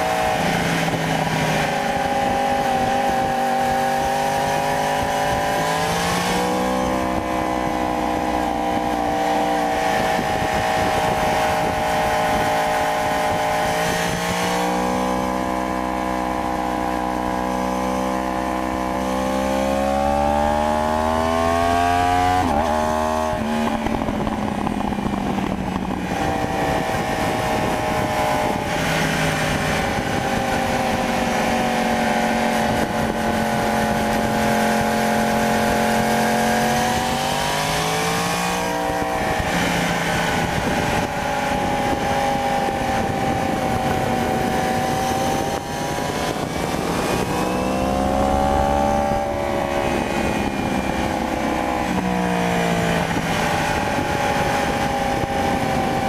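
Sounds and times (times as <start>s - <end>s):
motorcycle engine running: 0.0s - 56.0s
wind rush: 0.0s - 56.0s.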